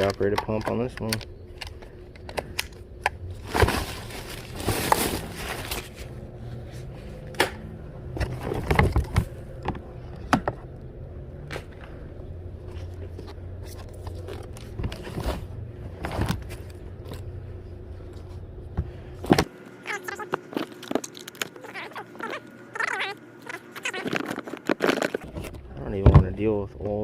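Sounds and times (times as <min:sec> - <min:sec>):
items being handled and sorted: 0:00.0 - 0:27.0
steady low hum: 0:00.0 - 0:27.0.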